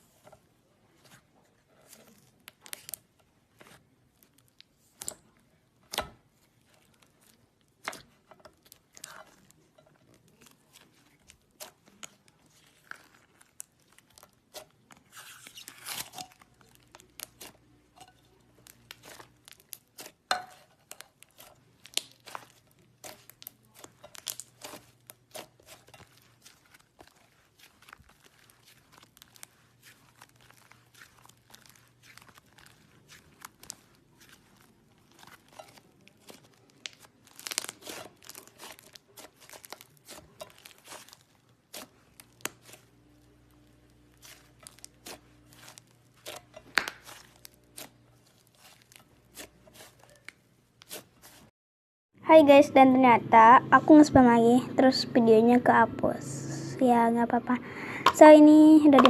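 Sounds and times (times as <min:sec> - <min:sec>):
slime crackling and popping: 0:01.9 - 0:51.5.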